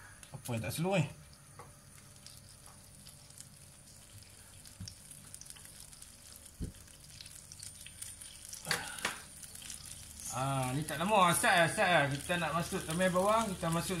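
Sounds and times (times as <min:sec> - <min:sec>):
oil sizzling in a frying pan: 0:01.3 - 0:14.0.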